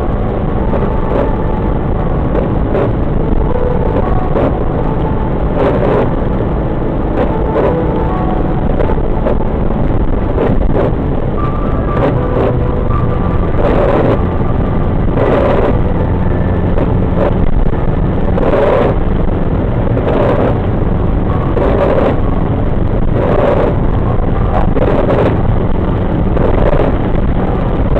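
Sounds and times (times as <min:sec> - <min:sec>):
road and rain noise: 0:00.0 - 0:27.9.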